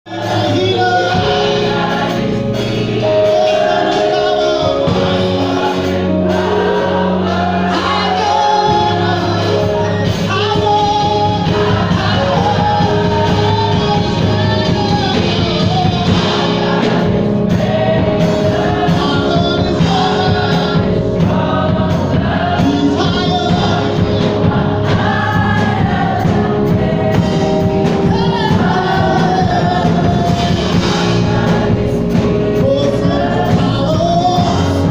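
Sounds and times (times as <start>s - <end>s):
band accompaniment: 0.1s - 34.9s
gospel choir singing: 0.1s - 34.9s.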